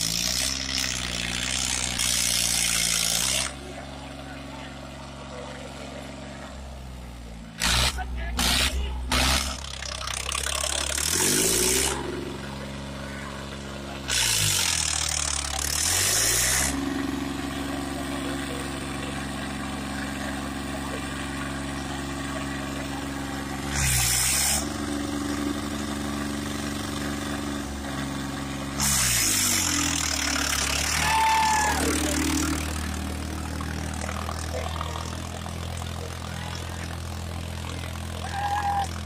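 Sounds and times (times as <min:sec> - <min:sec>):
tractor diesel engine revving: 0:00.0 - 0:39.0.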